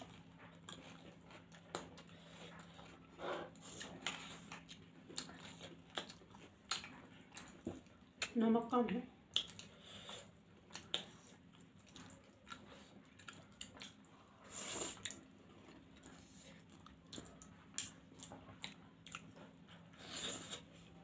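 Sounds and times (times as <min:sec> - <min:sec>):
wet chewing: 0:00.0 - 0:08.4, 0:09.2 - 0:21.0.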